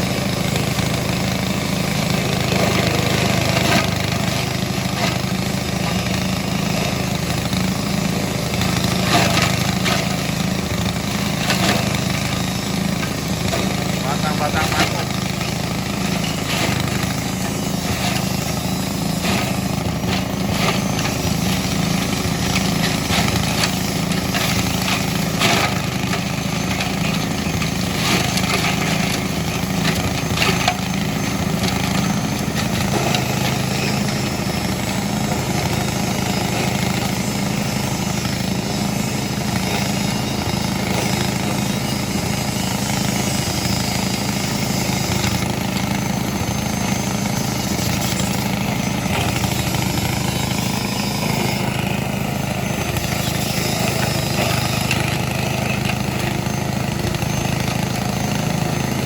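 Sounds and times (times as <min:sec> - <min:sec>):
grass chopper machine humming: 0:00.0 - 0:59.0.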